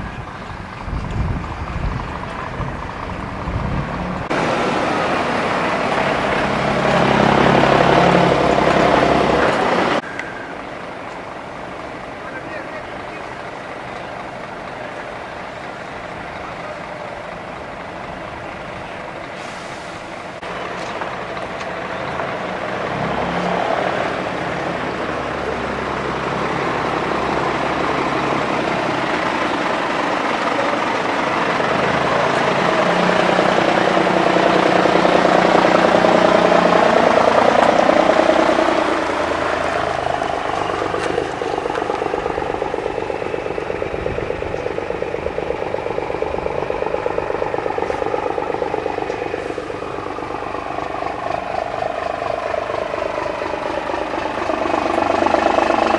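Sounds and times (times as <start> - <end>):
diesel trucks driving past: 0.0 - 55.9.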